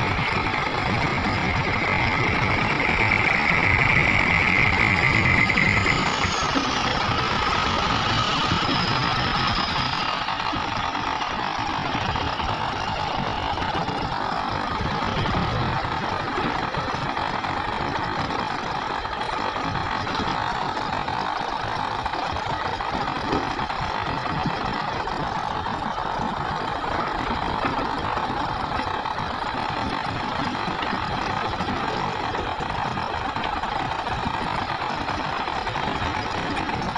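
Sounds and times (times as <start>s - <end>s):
excavators digging: 0.0s - 36.9s
heavy diesel engines running: 0.0s - 36.9s.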